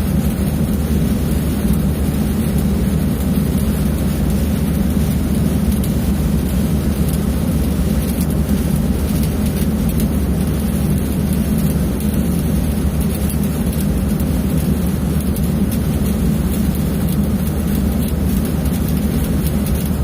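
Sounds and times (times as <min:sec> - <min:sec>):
steady low hum: 0:00.0 - 0:20.0
welding arc crackling: 0:00.0 - 0:20.0.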